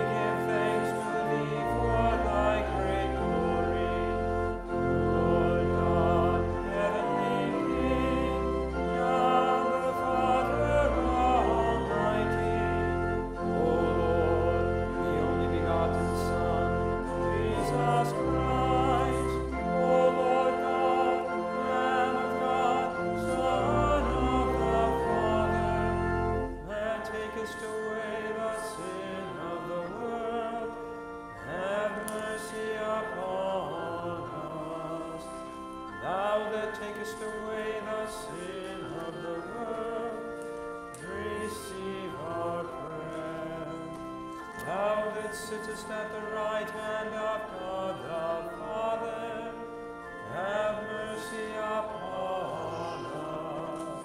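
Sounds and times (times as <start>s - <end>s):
organ: 0.0s - 54.0s
voices singing a hymn: 0.0s - 54.0s.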